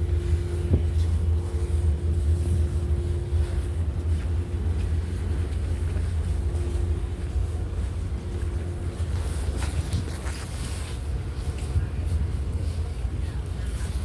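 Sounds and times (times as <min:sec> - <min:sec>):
ferry engines rumbling: 0:00.0 - 0:14.0
steady machinery hum: 0:00.0 - 0:14.0.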